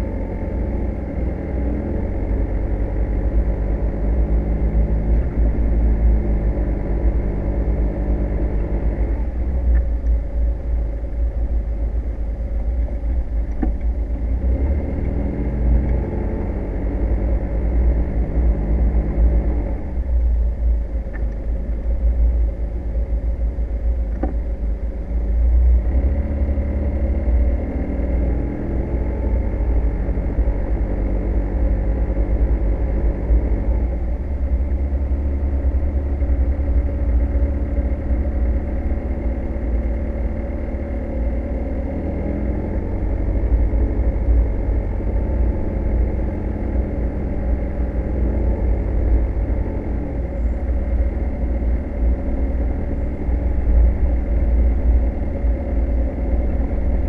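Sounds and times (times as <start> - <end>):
deep rumble: 0.0 - 57.0
vehicle engine accelerating: 0.0 - 57.0.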